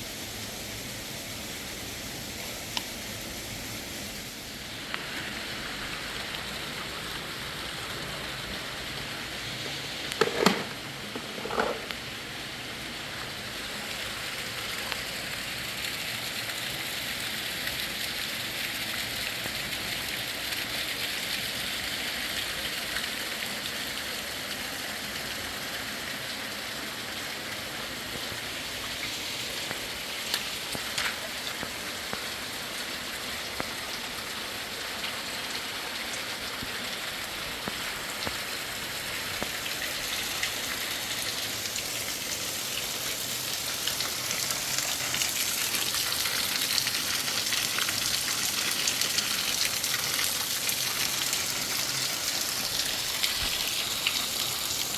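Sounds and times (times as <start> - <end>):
hiss of water: 0.0 - 54.9.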